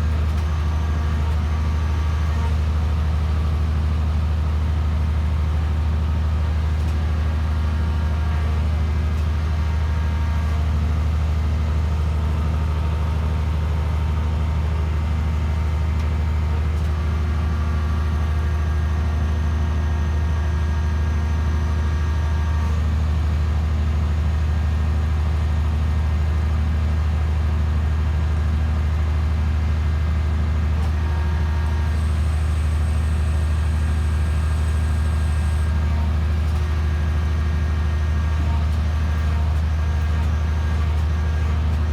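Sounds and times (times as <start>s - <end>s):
engine and hydraulic unit drone: 0.0s - 41.9s.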